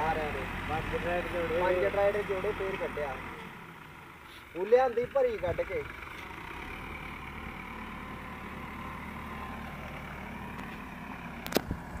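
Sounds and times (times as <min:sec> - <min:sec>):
diesel tractor engine idling: 0:00.0 - 0:12.0.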